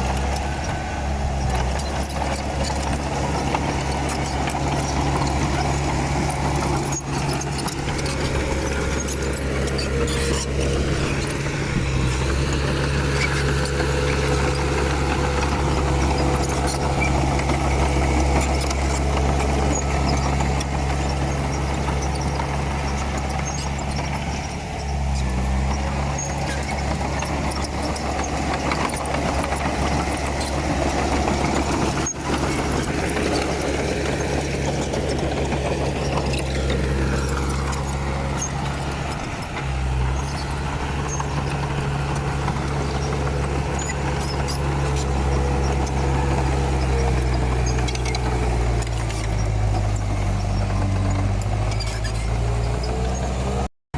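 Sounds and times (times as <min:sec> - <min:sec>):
bulldozer diesel engine running: 0:00.0 - 0:53.7.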